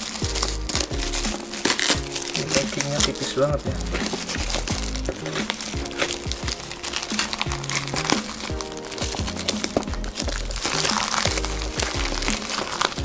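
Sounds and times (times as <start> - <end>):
background music: 0.0 - 13.0
plastic packaging crinkling: 0.0 - 13.0
scissors cutting: 0.0 - 13.0.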